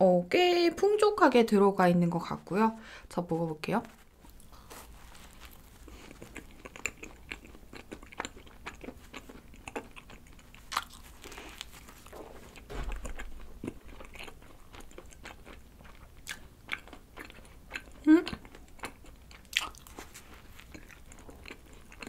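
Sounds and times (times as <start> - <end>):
person chewing doughnut: 3.9 - 22.0.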